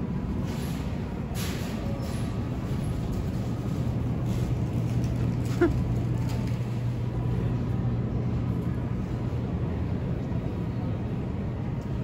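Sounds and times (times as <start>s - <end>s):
supermarket background hum: 0.0s - 12.0s.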